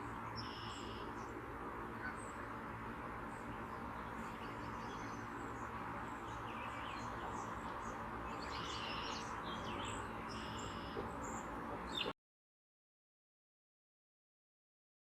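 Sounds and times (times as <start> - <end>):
wild birds chirping: 0.0 - 12.1
outdoor background noise: 0.0 - 12.2.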